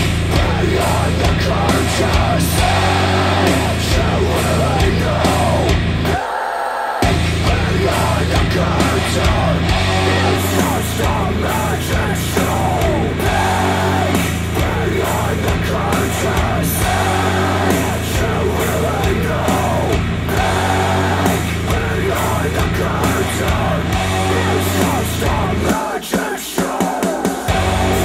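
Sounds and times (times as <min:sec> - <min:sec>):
steady bass line: 0:00.0 - 0:06.2, 0:07.0 - 0:25.7, 0:27.5 - 0:28.0
song over speakers: 0:00.0 - 0:28.0
person singing: 0:00.3 - 0:28.0.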